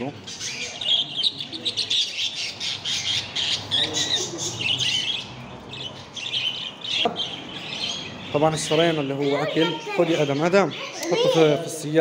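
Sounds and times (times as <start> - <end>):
budgerigars chattering and squawking: 0.0 - 12.0.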